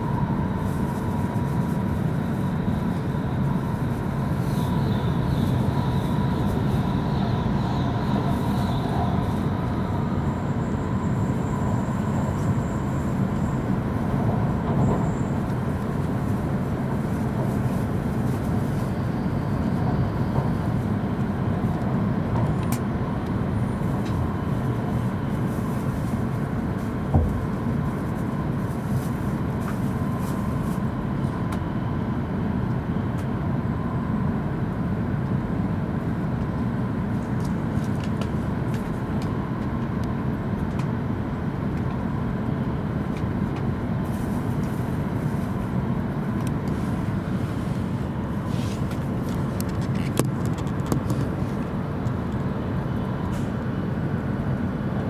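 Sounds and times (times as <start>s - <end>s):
train cabin rumble and hiss: 0.0s - 55.0s.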